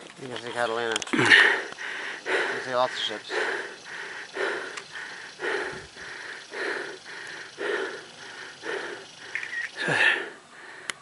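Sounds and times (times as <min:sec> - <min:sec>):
heavy rhythmic breathing: 0:01.1 - 0:11.0.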